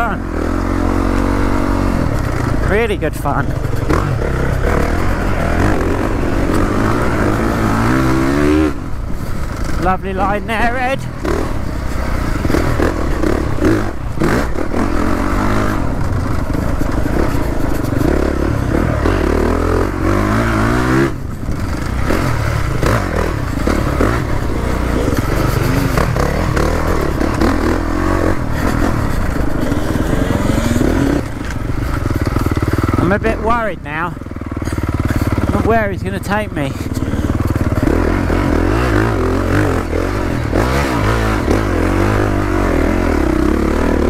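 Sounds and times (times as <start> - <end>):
bike rattling over rough ground: 0.0 - 44.0
dirt bike engine revving: 0.0 - 44.0.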